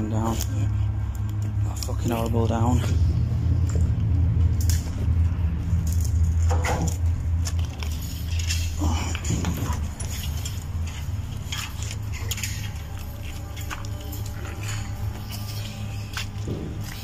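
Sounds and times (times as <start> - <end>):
footsteps through brambles: 0.0 - 17.0
steady low rumble: 0.0 - 17.0.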